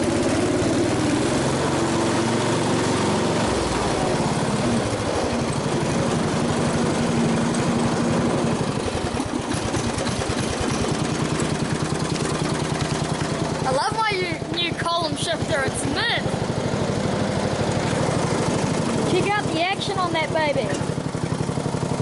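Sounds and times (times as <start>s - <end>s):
ride-on mower engine running: 0.0s - 22.0s.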